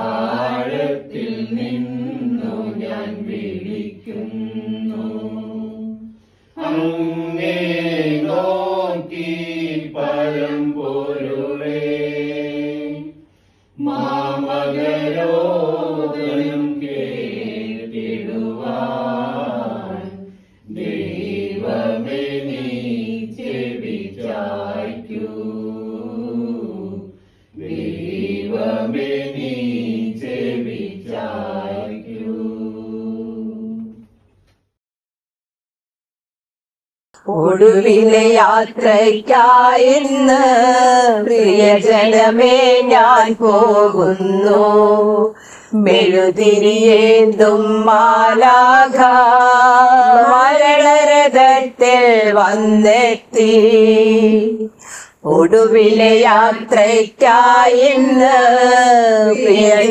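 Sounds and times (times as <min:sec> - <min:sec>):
wordless chant-like singing: 0:00.0 - 0:34.2, 0:37.2 - 0:59.9.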